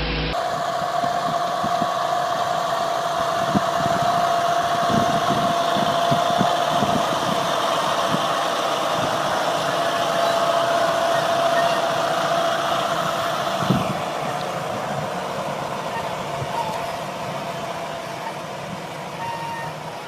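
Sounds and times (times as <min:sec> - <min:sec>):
constant whine: 0:00.0 - 0:20.0
engine running: 0:00.0 - 0:20.0.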